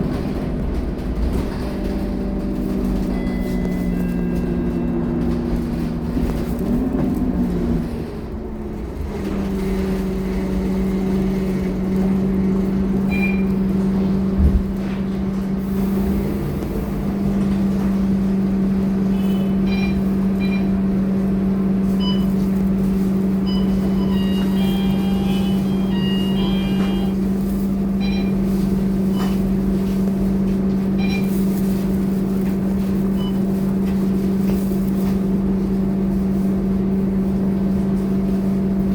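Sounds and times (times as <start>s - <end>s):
bus diesel engine drone: 0.0s - 38.9s.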